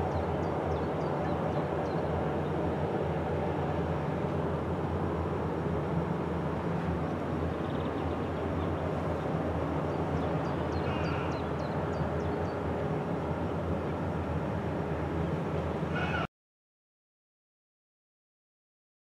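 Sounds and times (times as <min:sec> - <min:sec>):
ship engines rumbling: 0:00.0 - 0:16.3.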